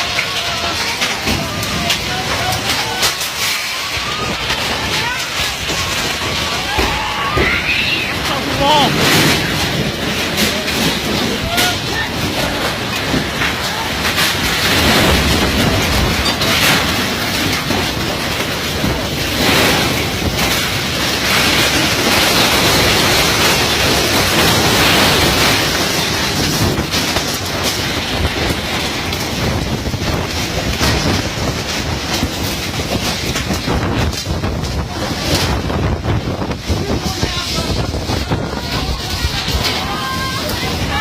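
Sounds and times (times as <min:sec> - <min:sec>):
storm wind buffeting microphone: 0:00.0 - 0:41.0.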